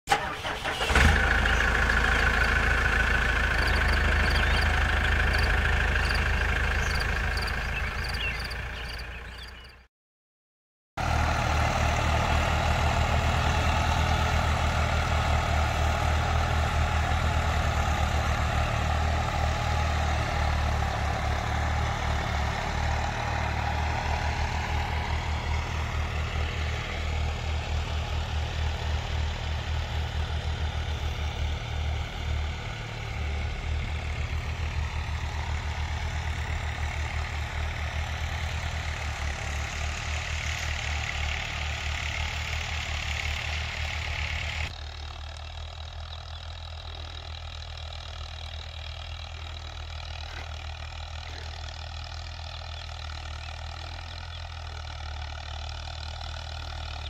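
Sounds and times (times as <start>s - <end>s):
diesel tractor engine rumbling: 0.1s - 9.9s, 11.0s - 57.0s.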